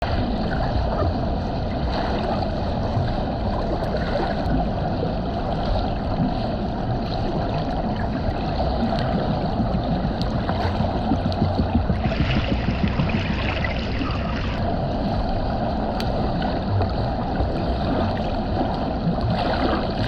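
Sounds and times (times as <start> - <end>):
low rumble: 0.0 - 20.0
rushing gurgling water: 0.0 - 20.0.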